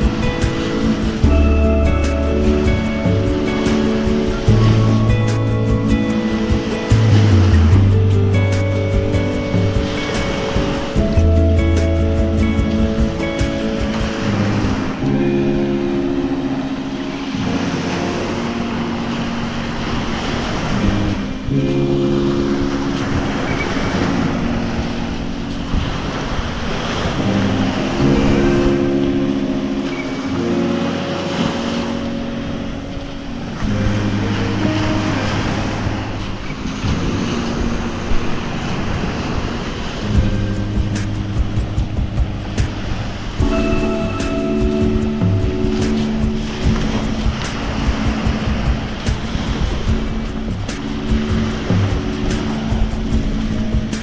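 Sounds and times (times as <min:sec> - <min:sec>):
slow sustained chords music: 0:00.0 - 0:54.0
small waves on sandy beach: 0:00.0 - 0:54.0.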